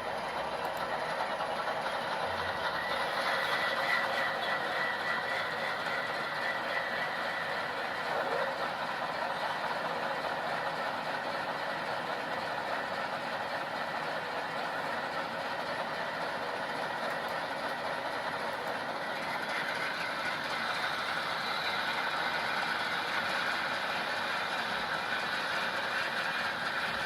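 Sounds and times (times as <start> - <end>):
model locomotive engine sound: 0.0 - 27.0.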